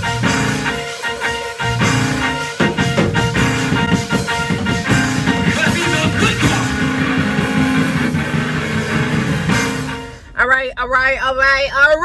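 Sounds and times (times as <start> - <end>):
music with held tones: 0.0 - 10.3.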